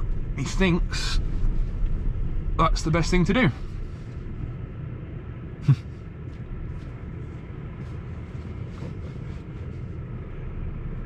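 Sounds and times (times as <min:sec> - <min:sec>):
lorry diesel engine rumbling: 0:00.0 - 0:11.0.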